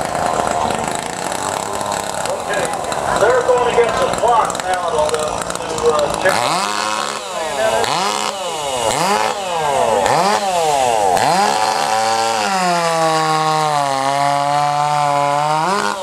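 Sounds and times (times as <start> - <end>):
chainsaw revving and cutting: 0.0 - 16.0.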